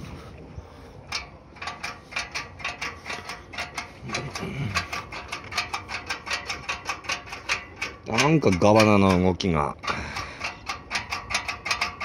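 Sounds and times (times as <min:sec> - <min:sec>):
throttle linkage clicking and rattling: 0:01.1 - 0:12.0.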